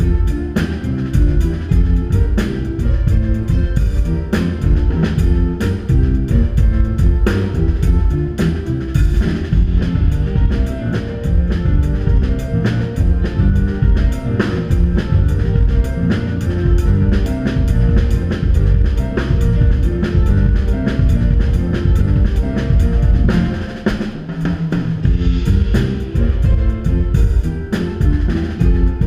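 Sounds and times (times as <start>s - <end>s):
drum kit beat: 0.0s - 29.0s
electric bass: 0.0s - 29.0s
guitar: 0.0s - 29.0s
keyboard: 0.0s - 29.0s.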